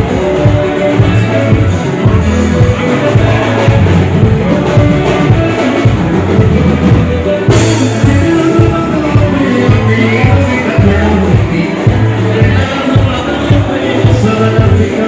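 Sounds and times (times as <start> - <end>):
bass drum beat: 0.0 - 15.0
live band playing: 0.0 - 15.0.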